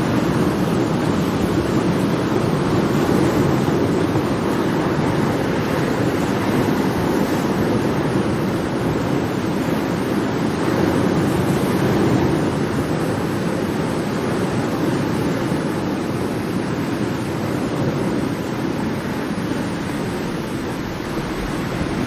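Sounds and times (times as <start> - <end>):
ocean waves washing: 0.0 - 22.0.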